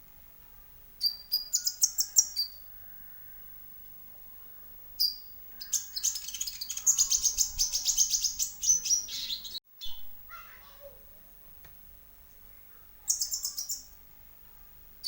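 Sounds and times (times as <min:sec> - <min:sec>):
sunbirds chirping: 0:00.5 - 0:10.6, 0:12.1 - 0:15.0.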